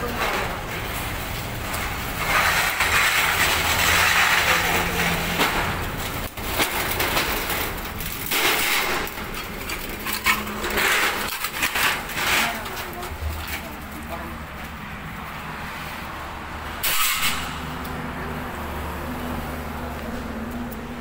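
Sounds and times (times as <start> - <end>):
metal shutter rattling and grating: 0.0 - 21.0.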